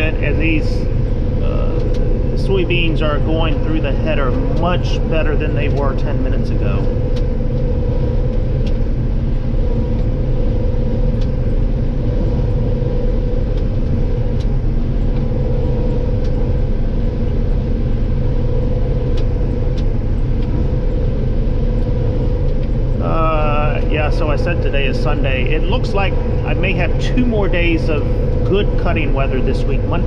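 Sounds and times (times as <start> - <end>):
combine harvester drone: 0.0 - 30.0
constant hum: 0.0 - 30.0.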